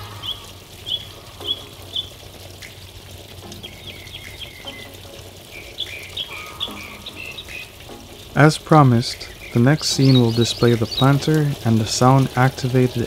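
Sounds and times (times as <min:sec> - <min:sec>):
fountain water trickling: 0:00.0 - 0:13.0
small birds chirping: 0:00.0 - 0:13.0.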